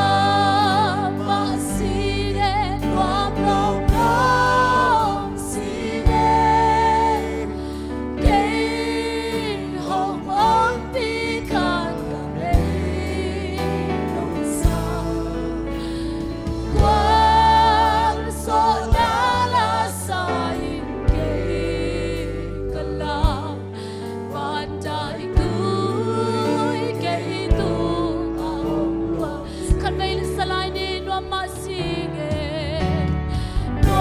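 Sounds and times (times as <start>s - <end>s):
people singing worship song: 0.0s - 34.0s
sustained bass notes: 0.0s - 34.0s.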